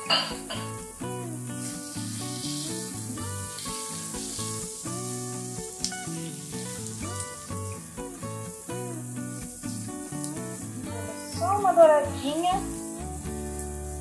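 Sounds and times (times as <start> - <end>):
background music with held notes: 0.0 - 14.0
food sizzling in a pan: 0.0 - 14.0.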